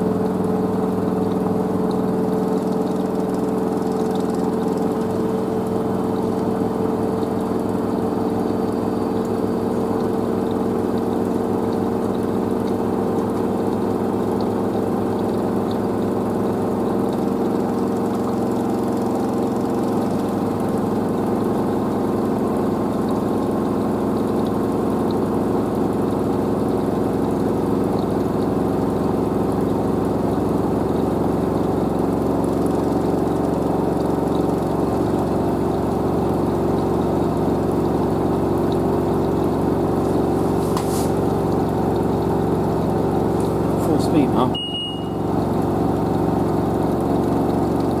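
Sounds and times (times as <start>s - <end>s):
washer dryer drum spinning: 0.0s - 48.0s.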